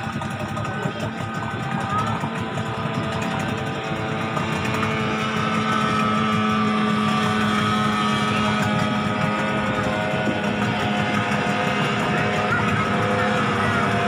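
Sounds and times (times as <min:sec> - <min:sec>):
outboard engine droning: 0:00.0 - 0:14.0.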